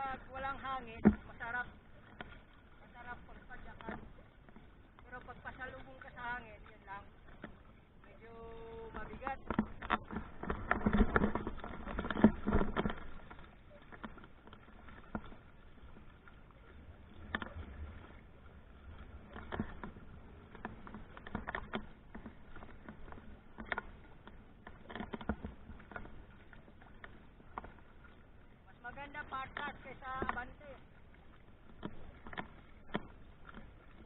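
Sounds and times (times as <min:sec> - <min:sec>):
water lapping against kayak hull: 0:00.0 - 0:34.0.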